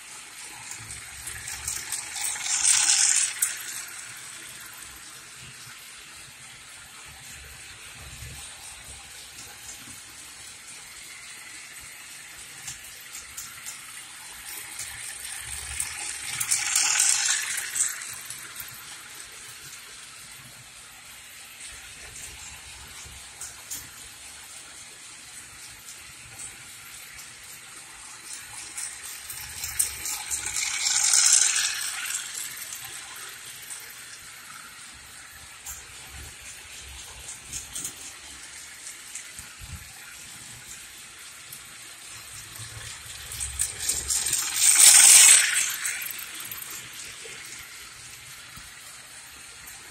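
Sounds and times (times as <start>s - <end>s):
toy train rattling on track: 0.0s - 49.9s.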